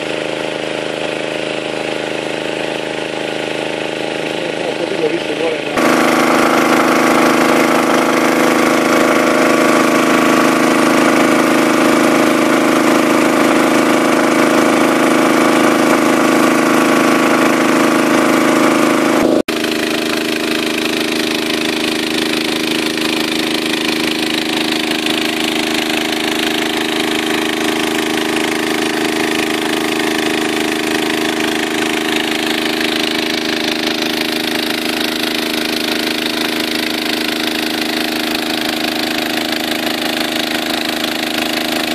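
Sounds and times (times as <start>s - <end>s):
water pump engine running: 0.0s - 41.9s.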